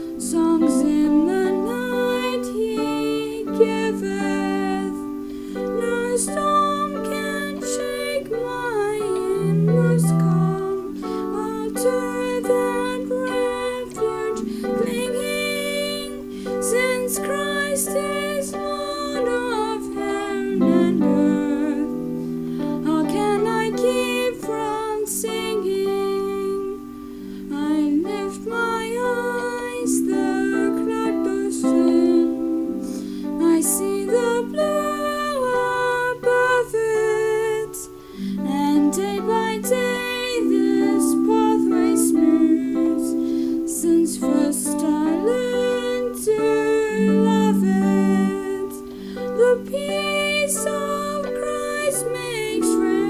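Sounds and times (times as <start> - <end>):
held accompaniment chords: 0.0 - 53.0
hymn sung slowly: 0.0 - 53.0.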